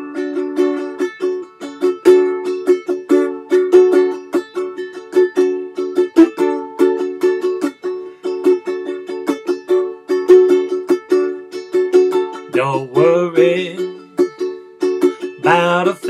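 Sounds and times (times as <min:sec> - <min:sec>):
ukulele strumming reggae rhythm: 0:00.0 - 0:16.0.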